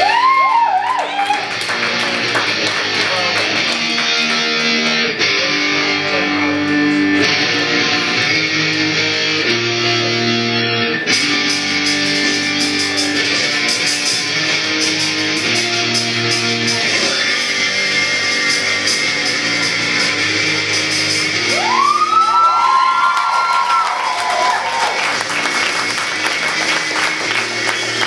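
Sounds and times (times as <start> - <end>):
music with held chords: 1.4 - 23.1, 24.7 - 28.0.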